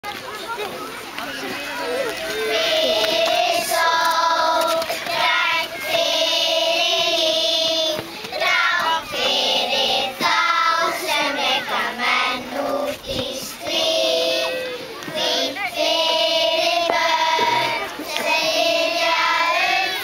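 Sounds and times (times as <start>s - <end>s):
children's choir singing: 2.2s - 20.0s.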